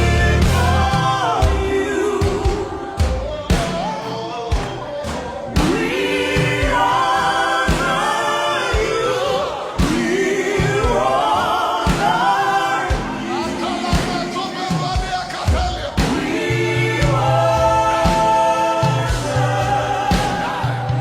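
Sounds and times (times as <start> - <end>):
band playing: 0.0 - 21.0
drum thumps: 0.0 - 21.0
gospel choir singing: 0.0 - 21.0.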